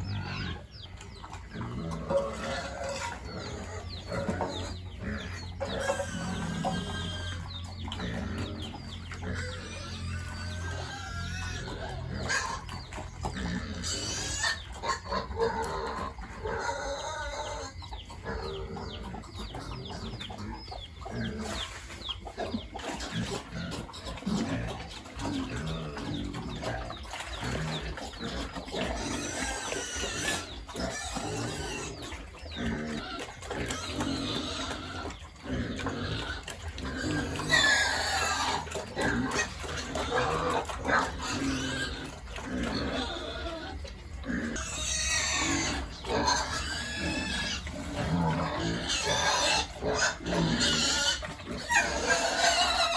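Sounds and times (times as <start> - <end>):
chickens calling: 0.0 - 52.9
pigs calling: 0.0 - 52.9.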